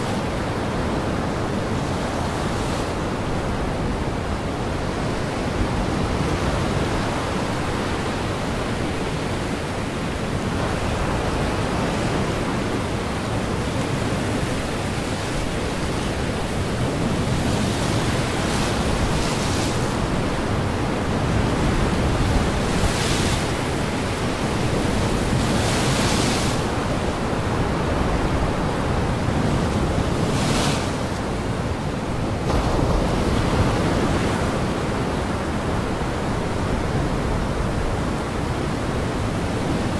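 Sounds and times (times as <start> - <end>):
strong wind gusts: 0.0 - 39.9
waves breaking: 0.0 - 39.9.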